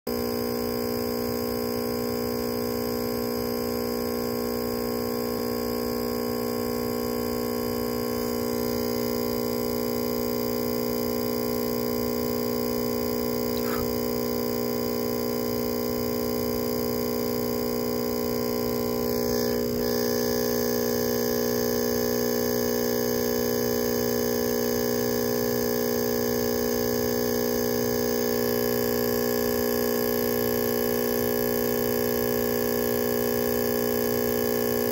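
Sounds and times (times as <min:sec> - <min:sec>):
steady electrical hum: 0:00.3 - 0:34.9.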